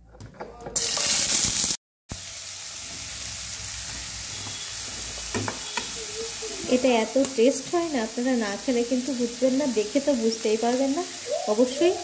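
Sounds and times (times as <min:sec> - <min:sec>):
vegetables sizzling in hot oil: 0:00.8 - 0:12.0.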